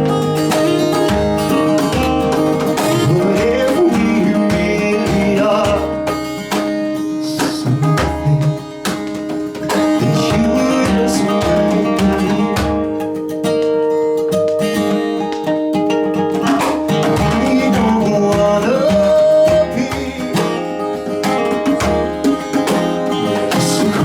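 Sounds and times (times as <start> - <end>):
acoustic guitar strumming: 0.0 - 24.0
sliding lead melody: 0.0 - 24.0.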